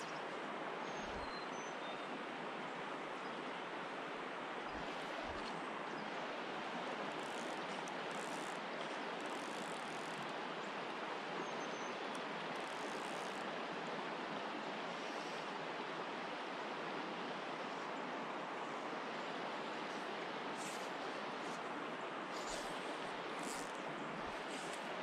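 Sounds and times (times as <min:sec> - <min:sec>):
creek water flowing over rocks: 0:02.1 - 0:25.0.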